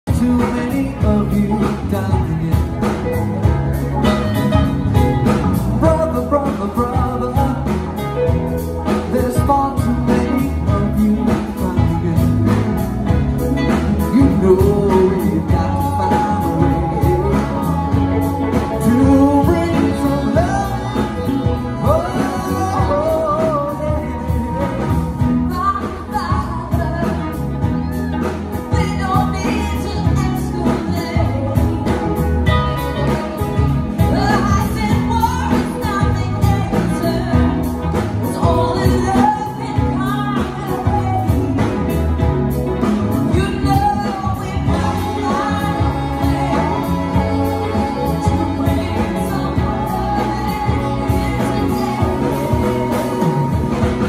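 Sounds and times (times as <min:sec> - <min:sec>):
live band playing: 0:00.0 - 0:54.0
gliding lead melody: 0:00.1 - 0:54.0.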